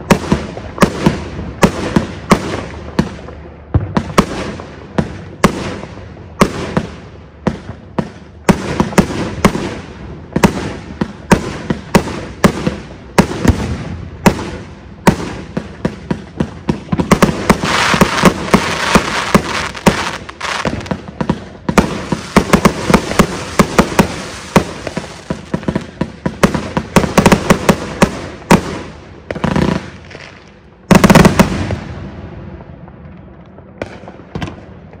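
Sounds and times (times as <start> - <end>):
crackling firework bursts: 0.0 - 35.0
fireworks bangs: 0.0 - 35.0.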